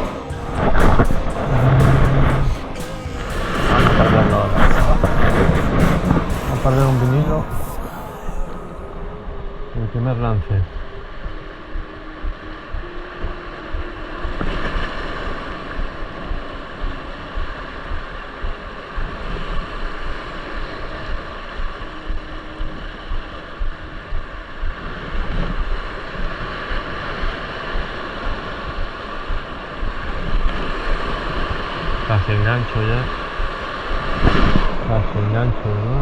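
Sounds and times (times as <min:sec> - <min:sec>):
heavy surf: 0:00.0 - 0:35.9.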